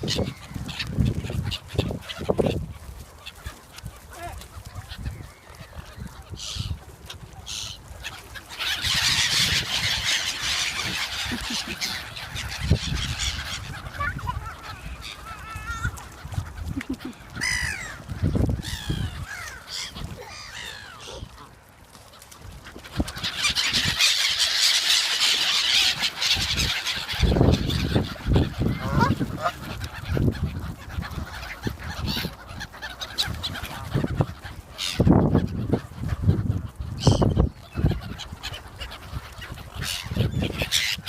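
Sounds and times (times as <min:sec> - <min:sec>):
birds calling: 0:00.0 - 0:41.0.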